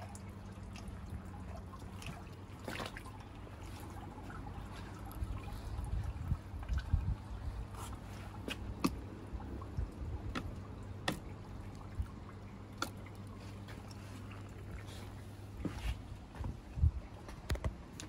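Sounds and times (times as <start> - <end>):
steady low hum: 0.0 - 18.0
water dripping and trickling: 0.0 - 18.0.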